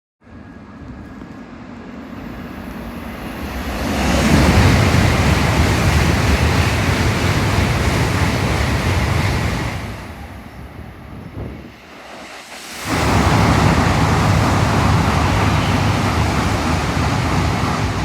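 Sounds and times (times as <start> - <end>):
high-speed train passing: 0.2 - 18.0.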